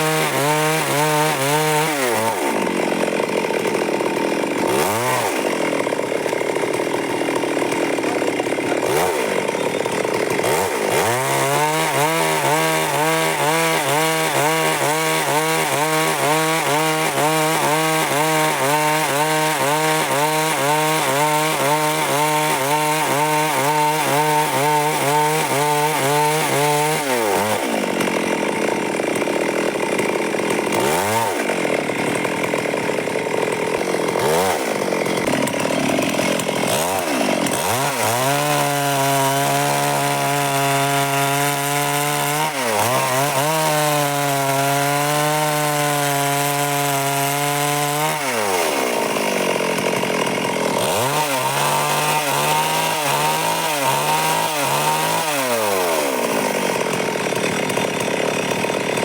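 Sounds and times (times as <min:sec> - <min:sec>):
chainsaw sawing through wood: 0:00.0 - 0:59.0.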